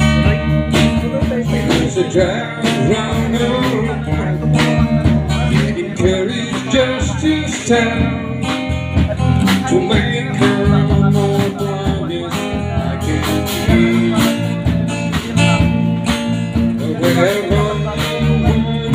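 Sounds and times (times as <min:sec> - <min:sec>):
drum kit beat: 0:00.0 - 0:18.9
electric bass: 0:00.0 - 0:18.9
strummed acoustic guitar: 0:00.0 - 0:18.9.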